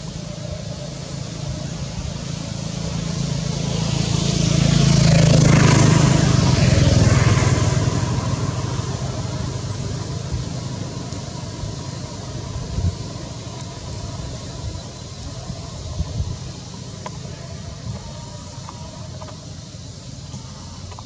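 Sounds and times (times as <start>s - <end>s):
vehicle engine passing by: 0.0s - 21.0s.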